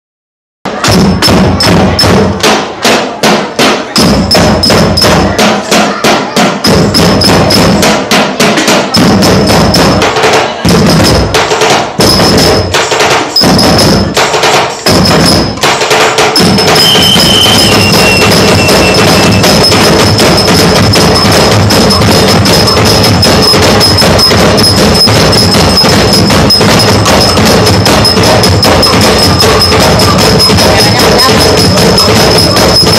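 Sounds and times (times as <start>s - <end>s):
large drum beats: 0.7s - 32.9s
percussion ensemble playing: 0.7s - 32.9s
wood-block-like strikes: 0.7s - 32.9s.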